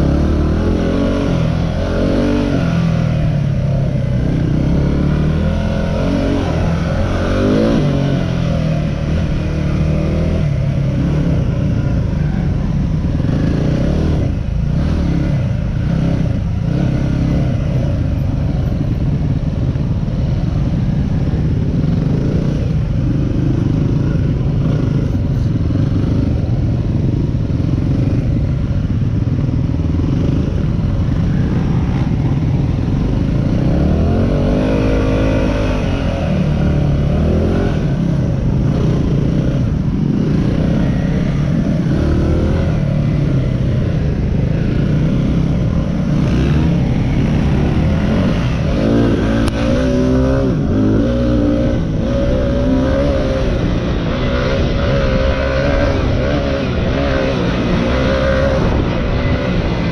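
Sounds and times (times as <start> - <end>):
motorcycle engine running and revving: 0.0 - 59.9.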